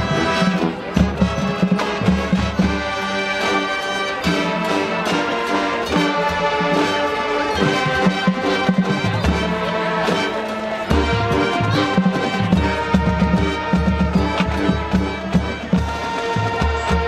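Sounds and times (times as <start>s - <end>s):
drum and percussion hits: 0.0s - 3.6s, 4.2s - 17.0s
brass chords: 0.0s - 17.0s
marching band playing: 0.0s - 17.0s.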